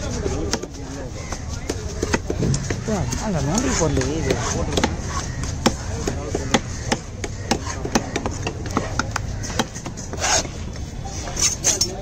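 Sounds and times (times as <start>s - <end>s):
knife chopping on wooden block: 0.5s - 10.5s.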